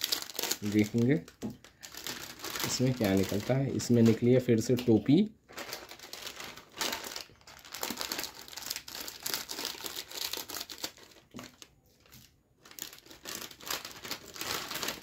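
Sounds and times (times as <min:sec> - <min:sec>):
plastic snack packet crinkling: 0:00.0 - 0:15.0.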